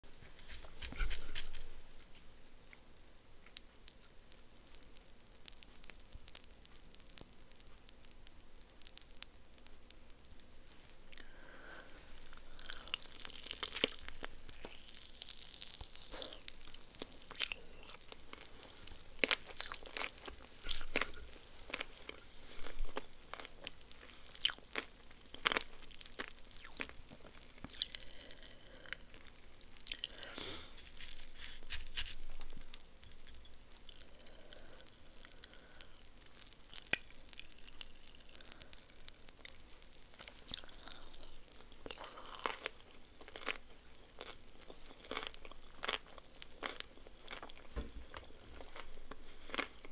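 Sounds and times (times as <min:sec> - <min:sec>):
popping candy fizzing crackle: 0:00.4 - 0:49.9
crunching and chewing candy: 0:00.5 - 0:49.9.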